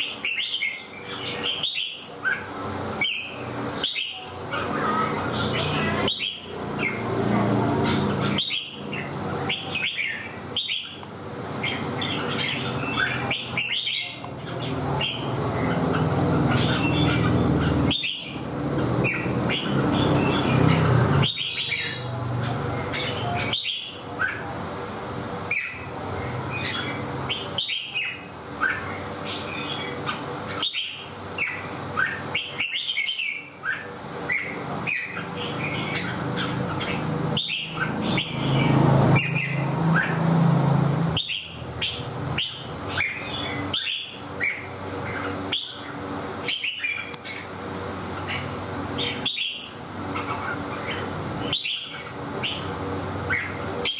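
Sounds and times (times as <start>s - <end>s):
bird singing chirpy phrases: 0.0s - 24.6s, 25.4s - 53.9s.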